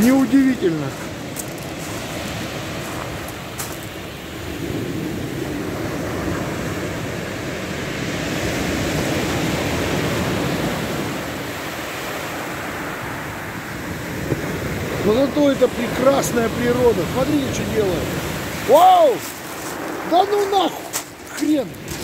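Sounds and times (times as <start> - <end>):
heavy surf on shingle beach: 0.0 - 22.0.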